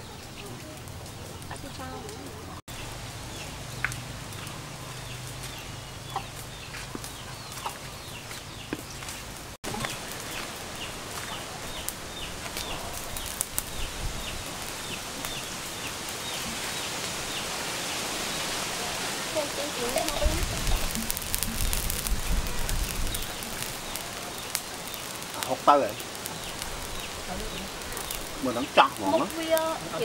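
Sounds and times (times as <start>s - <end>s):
chickens calling: 0.0s - 30.0s.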